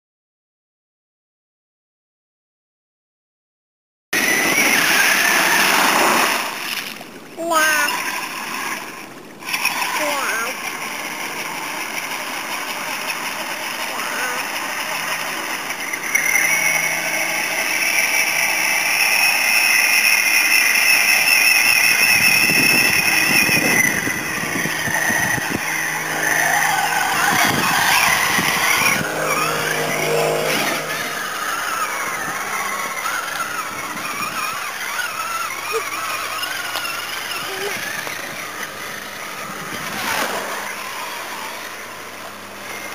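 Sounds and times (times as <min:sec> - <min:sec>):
electric motor whining: 0:04.2 - 0:42.9
water splashing around wheels: 0:04.2 - 0:42.9.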